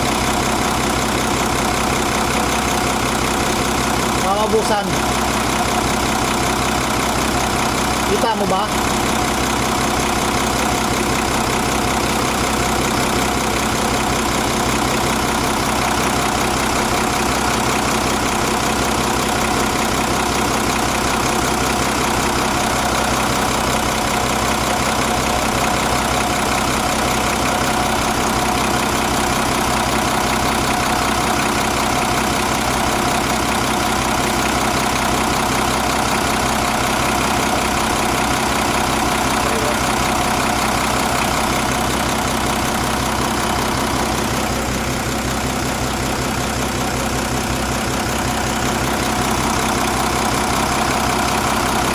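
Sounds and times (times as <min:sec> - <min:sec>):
diesel engine idling: 0:00.0 - 0:51.9.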